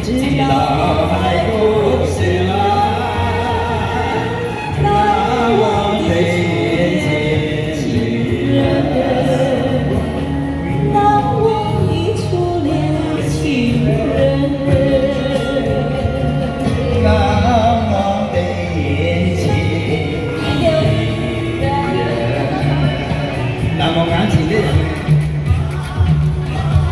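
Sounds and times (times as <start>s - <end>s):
karaoke backing track with bass: 0.0s - 26.9s
person singing: 0.0s - 26.9s.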